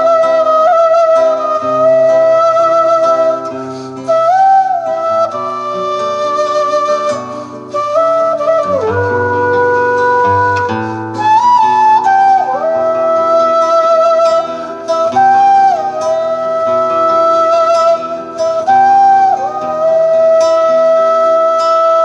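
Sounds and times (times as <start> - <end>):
acoustic guitar chords: 0.0 - 22.0
flute melody: 0.0 - 22.0.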